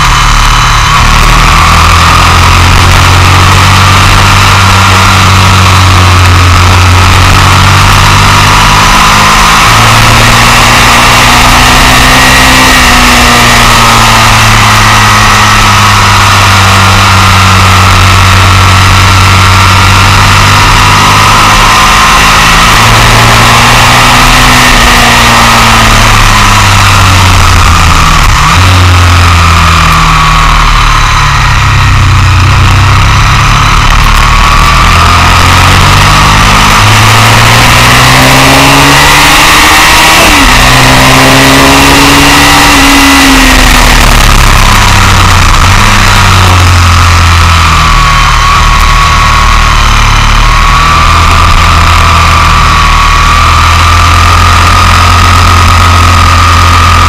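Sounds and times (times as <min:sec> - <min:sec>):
motorcycle engine revving: 0:00.0 - 0:57.0
wind and road rush: 0:00.0 - 0:57.0.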